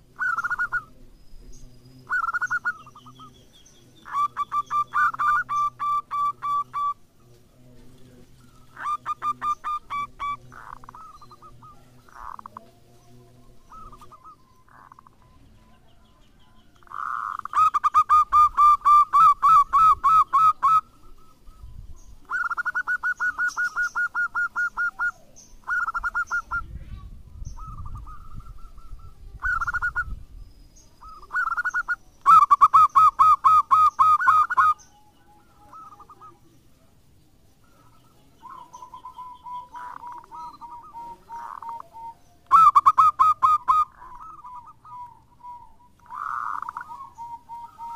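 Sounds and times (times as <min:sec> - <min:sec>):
dove cooing: 0:00.0 - 0:30.3, 0:31.0 - 0:36.9, 0:37.6 - 0:47.9.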